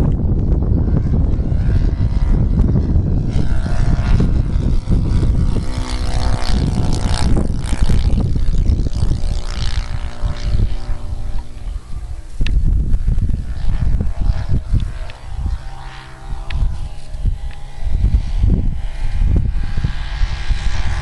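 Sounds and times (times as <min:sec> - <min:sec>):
model airplane engine droning: 0:00.0 - 0:21.0
wind rumble on microphone: 0:00.0 - 0:21.0.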